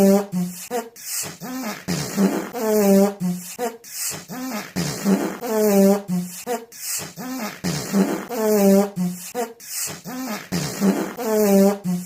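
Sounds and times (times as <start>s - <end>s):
comic fart noises: 0.0s - 12.0s.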